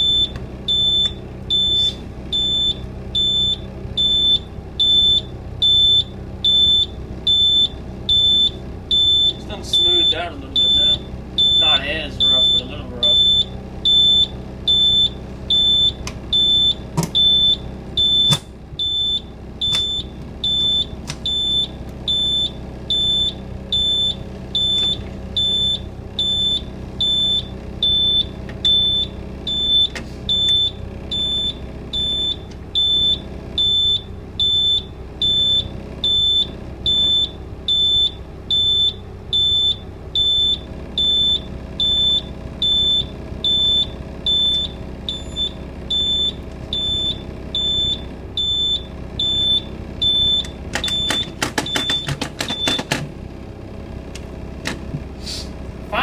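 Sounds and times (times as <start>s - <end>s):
warning beeping: 0.0s - 53.0s
diesel engine idling: 0.0s - 56.0s.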